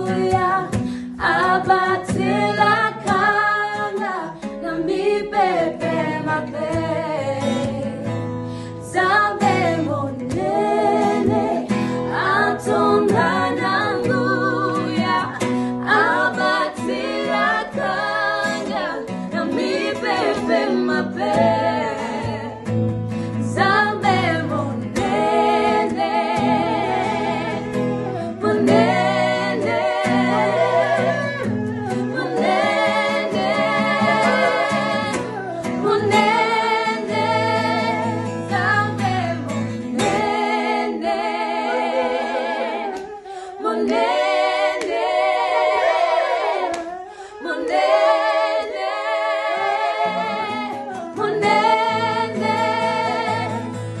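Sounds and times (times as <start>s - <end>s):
acoustic guitar: 0.0s - 54.0s
group singing in harmony: 0.0s - 54.0s.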